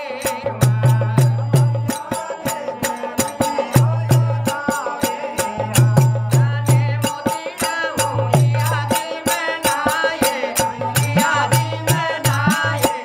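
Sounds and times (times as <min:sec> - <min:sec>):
man singing: 0:00.0 - 0:13.0
hand drum beating quick rhythm: 0:00.1 - 0:13.0.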